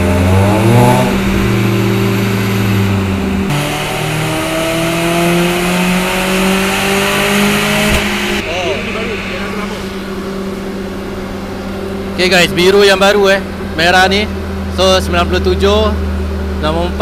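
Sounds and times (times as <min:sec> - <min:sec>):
car engine revving on dyno: 0:00.0 - 0:17.0.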